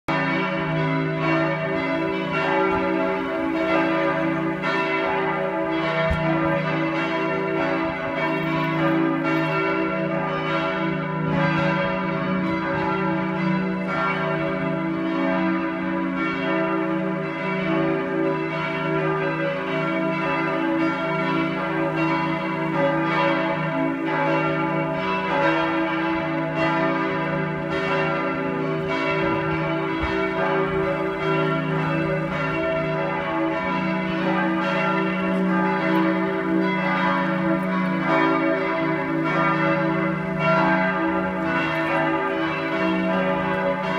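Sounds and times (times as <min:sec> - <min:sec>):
church bells pealing: 0:00.1 - 0:43.9.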